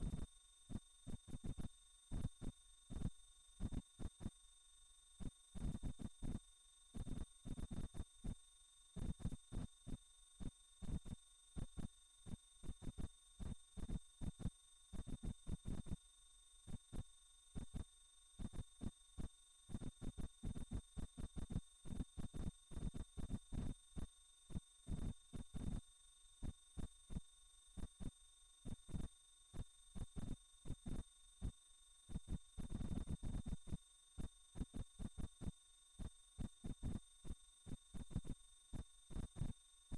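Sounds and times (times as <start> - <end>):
high-pitched pulsing sine tone: 0.0 - 39.9.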